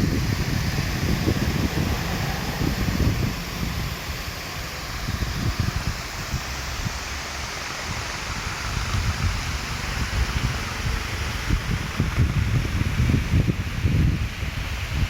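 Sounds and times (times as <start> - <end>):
steady rushing noise: 0.0 - 15.0
wind buffeting microphone: 0.0 - 15.0.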